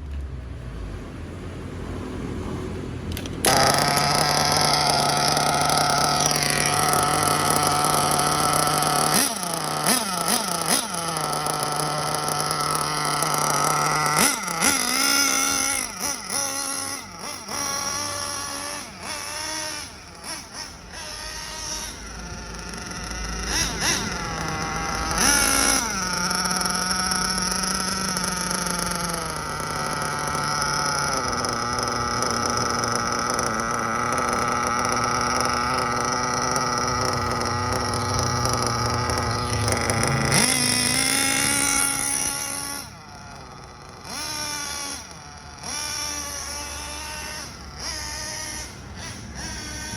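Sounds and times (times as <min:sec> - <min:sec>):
model car engine revving: 0:00.0 - 0:49.9.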